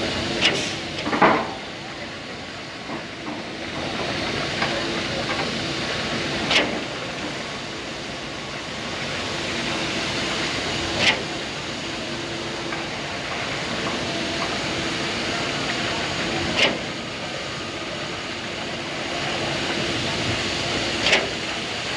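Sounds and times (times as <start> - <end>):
concrete pump droning: 0.0 - 21.9.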